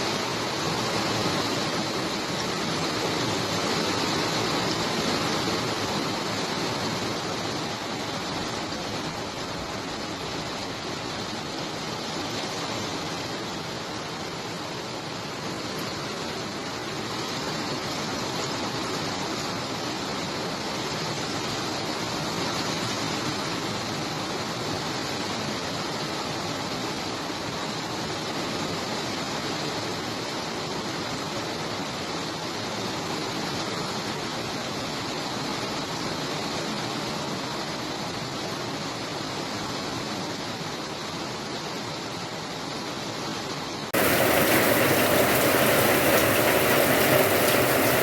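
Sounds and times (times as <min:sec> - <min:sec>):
steady rainfall: 0:00.0 - 0:48.0.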